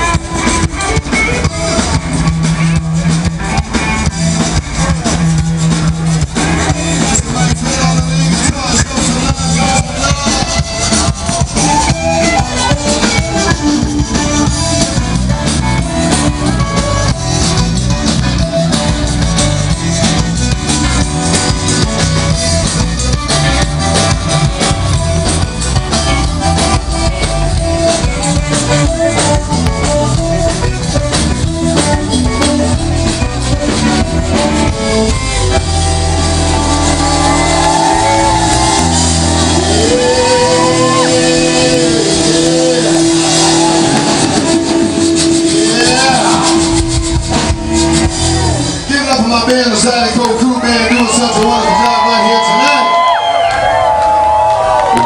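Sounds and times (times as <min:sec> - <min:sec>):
accordion: 0:00.0 - 0:49.0
live band playing loud music: 0:00.0 - 0:55.0.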